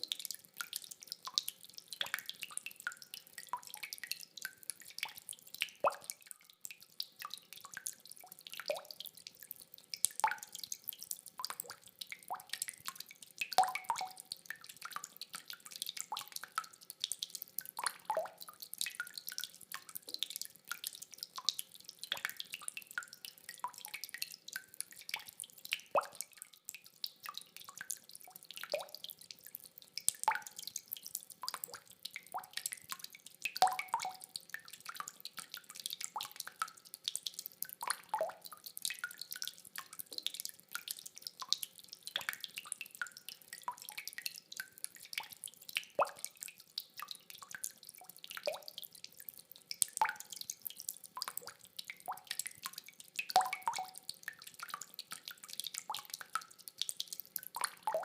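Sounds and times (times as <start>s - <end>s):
rainwater dripping: 0.0s - 58.0s.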